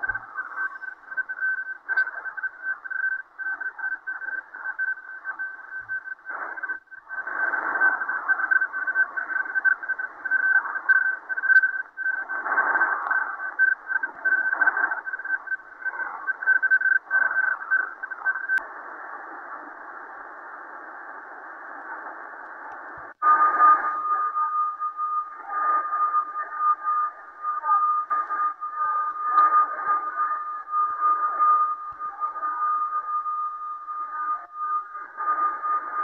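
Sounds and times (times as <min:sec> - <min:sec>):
hissy data noise: 0:00.0 - 0:36.0
pulsing high radio tone: 0:00.0 - 0:36.0.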